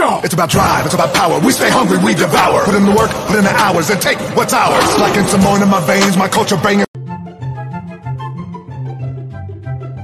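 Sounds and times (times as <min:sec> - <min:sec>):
instrumental background music: 0:00.2 - 0:10.0.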